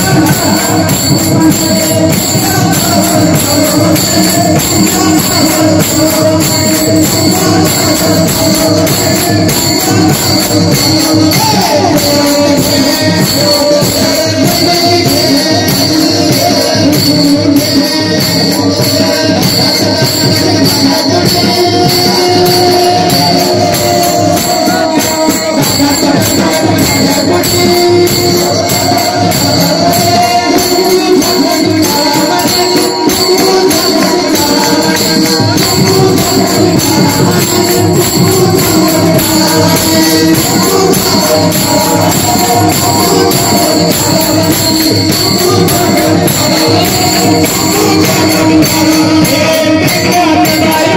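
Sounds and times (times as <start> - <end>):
fast hand drumming: 0.0 - 50.9
small hand cymbals clashing: 0.0 - 50.9.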